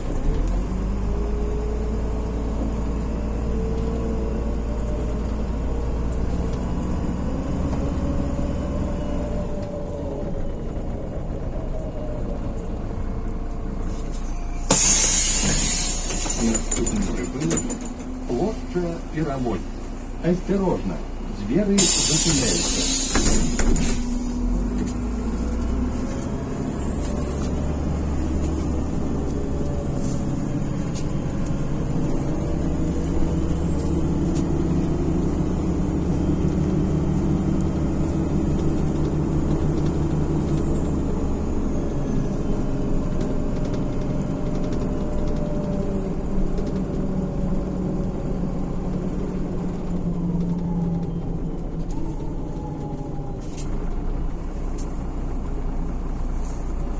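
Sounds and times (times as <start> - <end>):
bus engine droning under load: 0.0 - 56.9.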